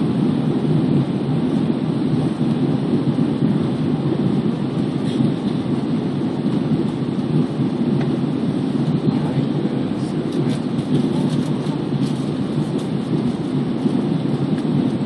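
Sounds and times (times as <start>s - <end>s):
airplane cabin engine roar: 0.0s - 15.0s.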